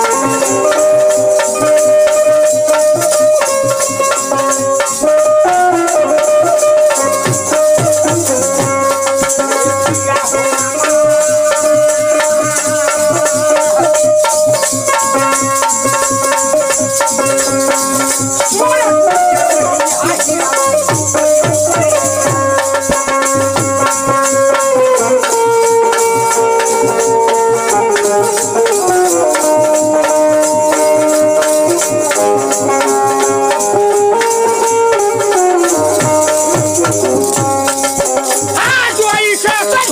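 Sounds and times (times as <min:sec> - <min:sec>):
dholak drum beat: 0:00.0 - 0:39.9
jingling hand percussion: 0:00.0 - 0:39.9
keyboard and banjo melody: 0:00.0 - 0:39.9.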